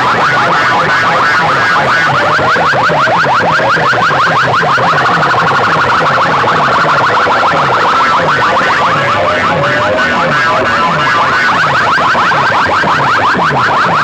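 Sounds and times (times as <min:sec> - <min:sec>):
pulsing bass: 0:00.0 - 0:14.0
rapid alarm-like chirps: 0:00.0 - 0:14.0.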